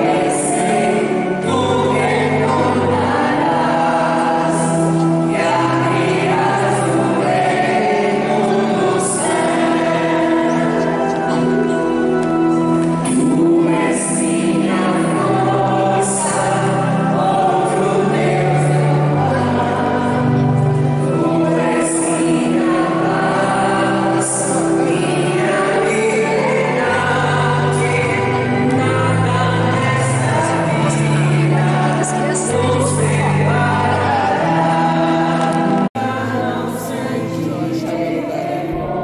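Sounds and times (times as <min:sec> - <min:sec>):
church choir singing a hymn: 0:00.0 - 0:39.0.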